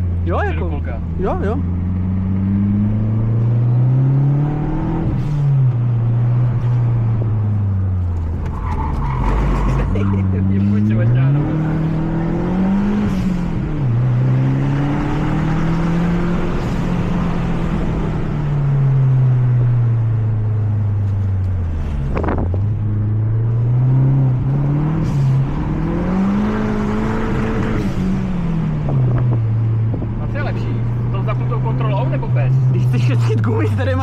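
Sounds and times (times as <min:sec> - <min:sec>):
car engine heard from cabin: 0:00.0 - 0:34.0.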